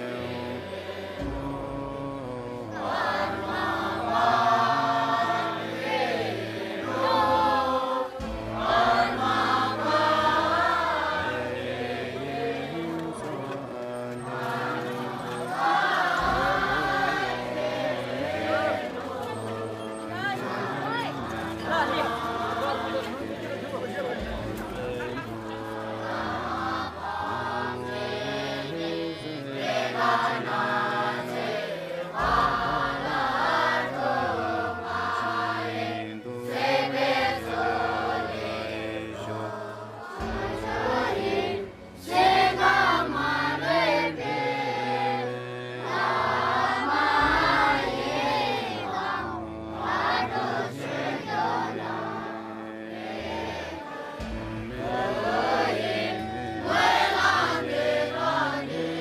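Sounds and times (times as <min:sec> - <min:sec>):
group singing: 0:00.0 - 0:59.0
sustained low accompaniment: 0:00.0 - 0:59.0.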